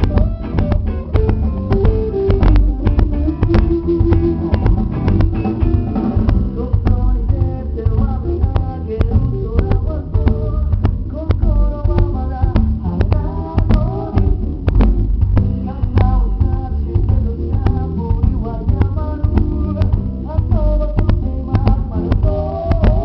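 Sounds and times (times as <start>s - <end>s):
drums keeping steady beat: 0.0s - 23.0s
live band playing: 0.0s - 23.0s.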